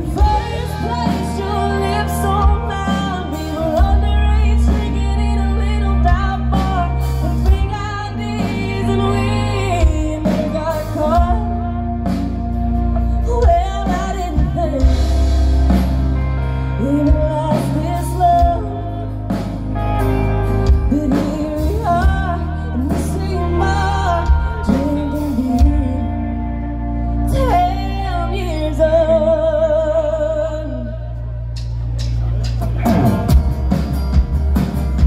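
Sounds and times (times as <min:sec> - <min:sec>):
woman singing: 0:00.0 - 0:31.5
live band playing: 0:00.0 - 0:35.0.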